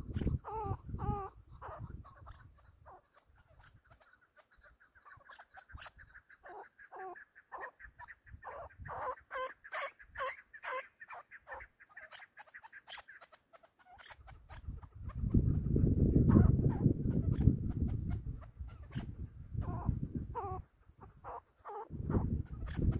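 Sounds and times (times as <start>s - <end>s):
partridge calling chuk notes: 0.0s - 22.9s.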